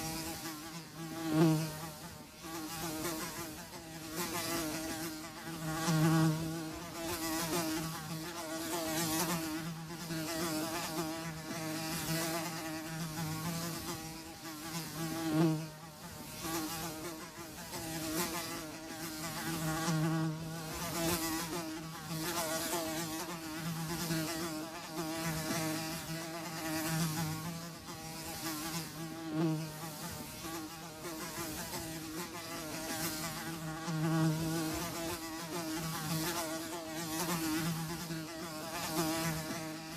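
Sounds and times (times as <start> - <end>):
flies buzzing: 0.0 - 39.9.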